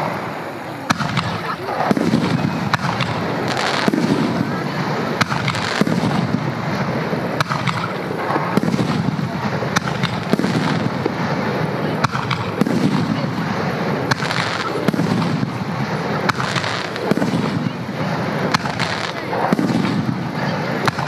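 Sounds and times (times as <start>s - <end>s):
firework shells bursting: 0.0s - 21.0s
steady rumbling: 0.0s - 21.0s.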